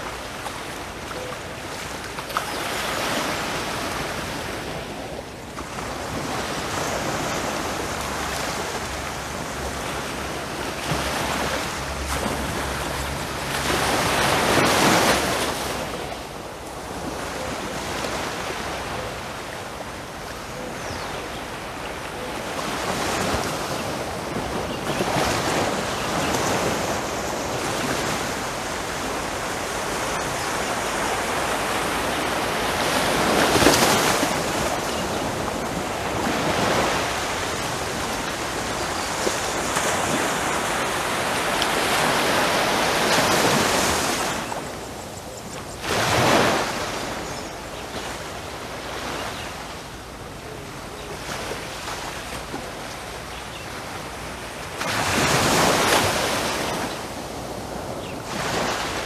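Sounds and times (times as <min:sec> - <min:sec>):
sea waves lapping on beach: 0:00.0 - 0:59.0.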